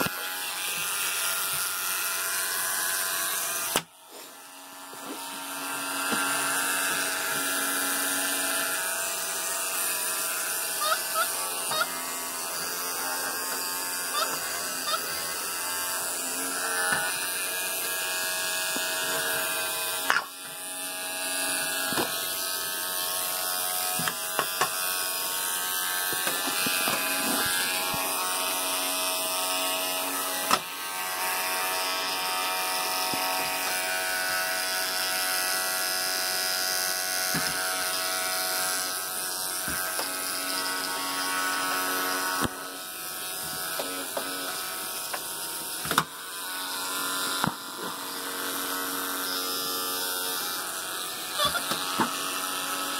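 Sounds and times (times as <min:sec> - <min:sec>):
electric toothbrush motor buzz: 0:00.0 - 0:52.9.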